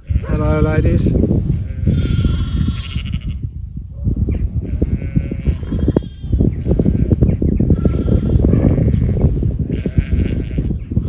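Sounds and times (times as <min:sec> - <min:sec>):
sheep bleating: 0:00.0 - 0:00.8, 0:01.7 - 0:03.4, 0:04.6 - 0:11.0.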